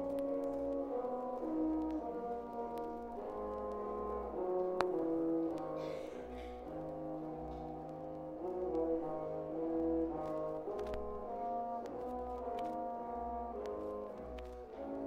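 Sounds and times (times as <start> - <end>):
slow brass melody: 0.0 - 15.0.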